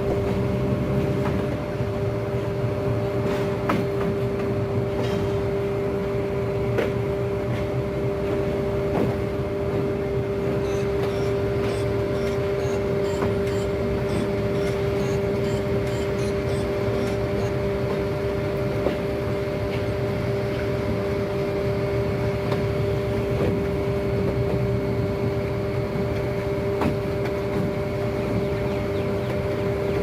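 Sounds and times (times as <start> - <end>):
clicks and knocks of train: 0.0 - 1.8, 3.1 - 21.0, 22.4 - 30.0
diesel train whine and rumble: 0.0 - 30.0.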